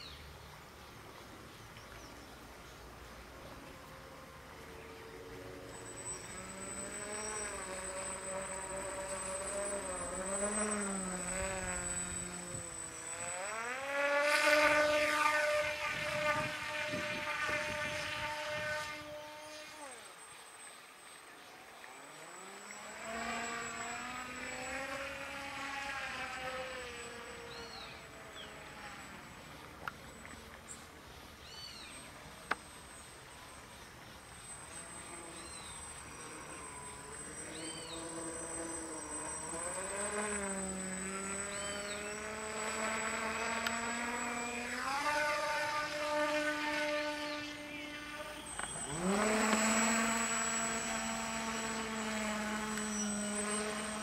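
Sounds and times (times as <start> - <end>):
model airplane motor droning: 0.0 - 54.0.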